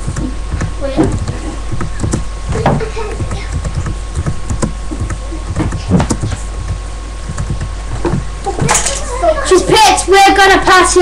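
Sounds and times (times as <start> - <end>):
knocks and bumps: 0.0 - 9.0
electrical hum: 0.0 - 11.0.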